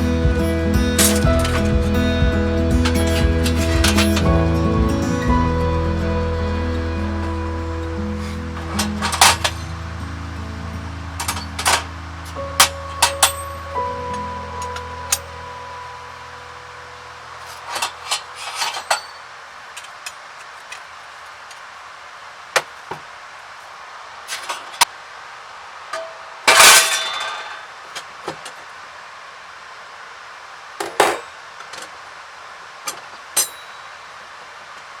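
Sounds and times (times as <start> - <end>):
firewood and metal stand clinking: 0.0 - 21.7, 22.5 - 23.1, 24.3 - 24.9, 25.9 - 28.7, 30.8 - 32.0, 32.7 - 34.2
faint steady hiss: 0.0 - 35.0.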